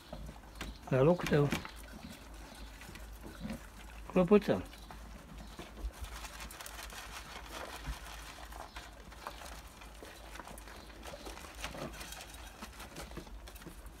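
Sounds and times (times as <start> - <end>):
goats crunching feed: 0.0 - 14.0.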